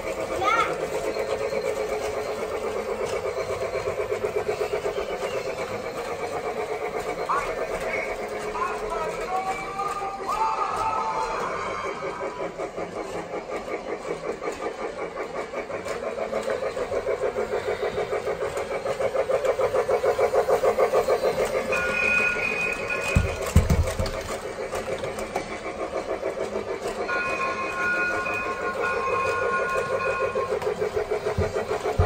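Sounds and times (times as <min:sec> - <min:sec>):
toy train chugging: 0:00.0 - 0:32.0.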